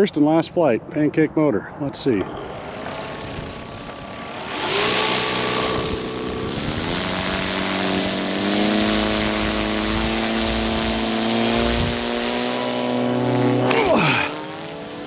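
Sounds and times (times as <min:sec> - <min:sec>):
electric motors whirring propellers: 0:02.4 - 0:15.0.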